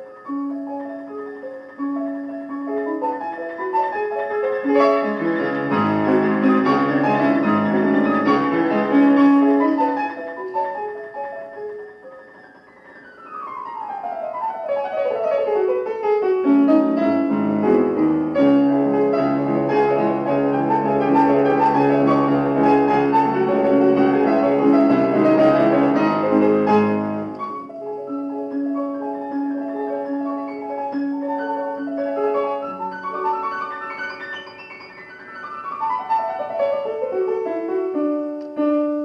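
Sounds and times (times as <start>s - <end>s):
classical piano playing: 0.0s - 39.0s.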